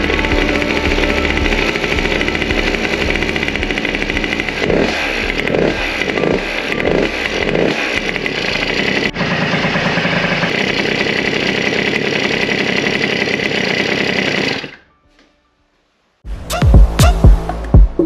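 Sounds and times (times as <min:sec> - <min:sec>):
two-stroke engine revving and running: 0:00.0 - 0:14.8.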